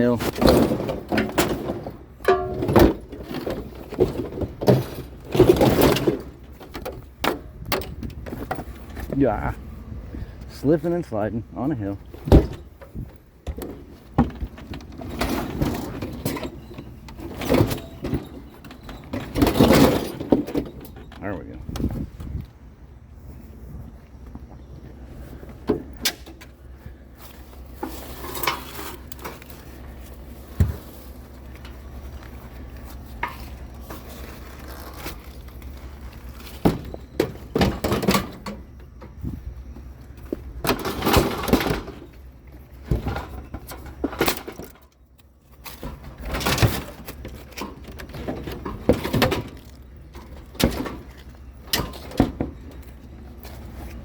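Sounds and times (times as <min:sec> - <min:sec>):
junk clanking and clattering: 0:00.0 - 0:23.4, 0:24.0 - 0:54.0
steady low hum: 0:06.0 - 0:54.0.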